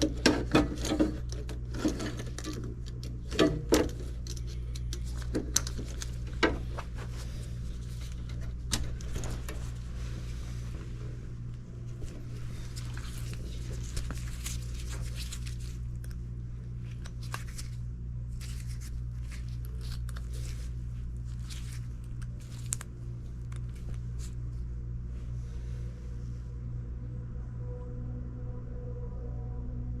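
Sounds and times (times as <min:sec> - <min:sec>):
air conditioner electrical hum: 0:00.0 - 0:30.0.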